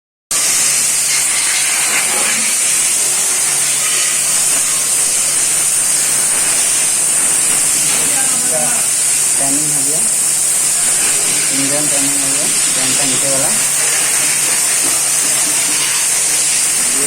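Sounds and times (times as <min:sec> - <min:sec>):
loud hiss: 0:00.3 - 0:17.0.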